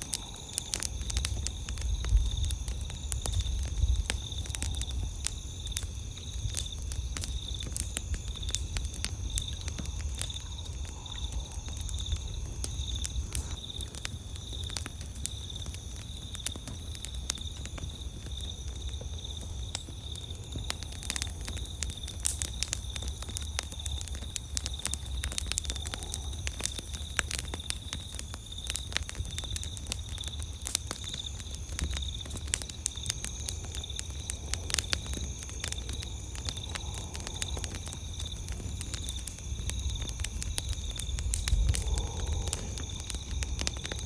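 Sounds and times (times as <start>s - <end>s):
campfire crackling and popping: 0.0s - 44.0s
night insects trilling: 0.0s - 44.0s.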